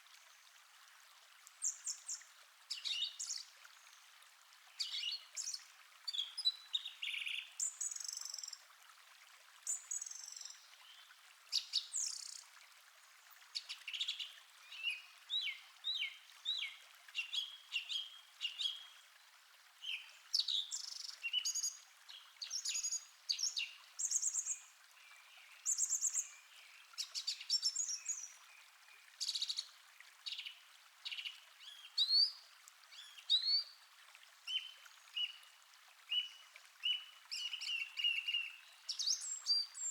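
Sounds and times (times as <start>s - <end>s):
calm stream hissing: 0.0s - 39.9s.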